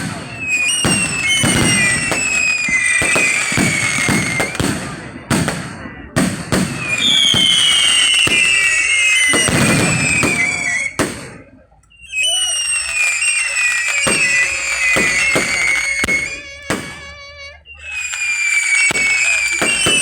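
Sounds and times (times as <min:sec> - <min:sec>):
fireworks bangs: 0:00.0 - 0:20.0
fireworks whistling: 0:00.0 - 0:20.0.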